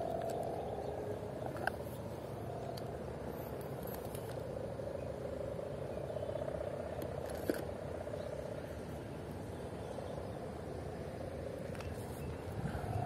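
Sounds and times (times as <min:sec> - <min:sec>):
faint wavering hum: 0:00.0 - 0:13.0
outdoor background noise: 0:00.0 - 0:13.0.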